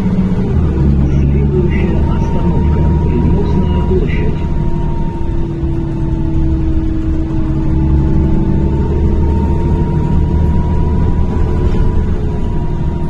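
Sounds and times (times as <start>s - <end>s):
bus engine and road rumble: 0.0s - 13.0s
continuous whine: 0.0s - 13.0s.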